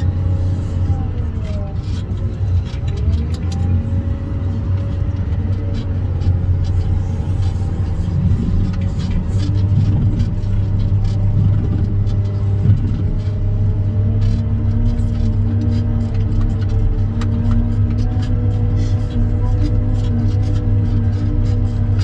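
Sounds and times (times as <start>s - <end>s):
diesel engine running under load: 0.0s - 22.0s
light rattles and clicks: 0.0s - 22.0s
steady engine whine: 0.0s - 22.0s.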